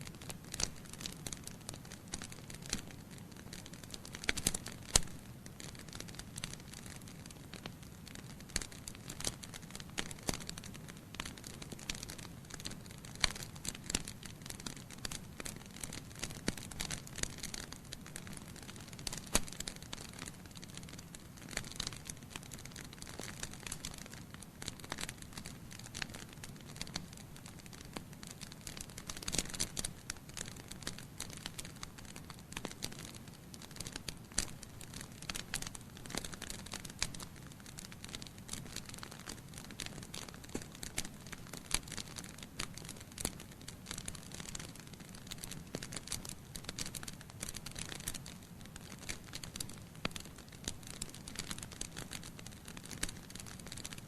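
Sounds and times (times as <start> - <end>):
logs crackling and snapping: 0.0 - 54.0.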